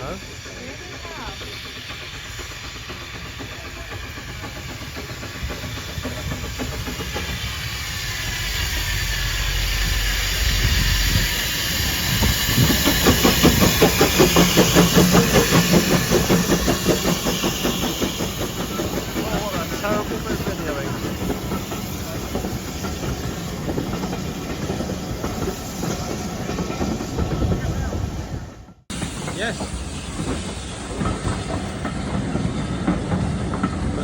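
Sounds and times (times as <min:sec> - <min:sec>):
train approaching: 0:00.0 - 0:34.0.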